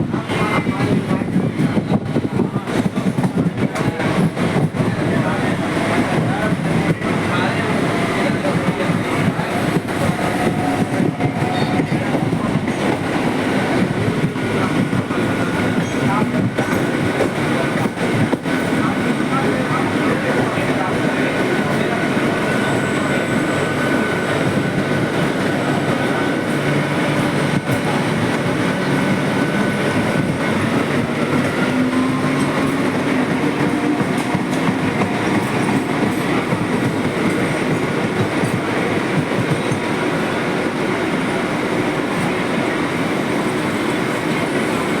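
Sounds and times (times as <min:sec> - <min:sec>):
electric train rumbling on rails: 0:00.0 - 0:45.0.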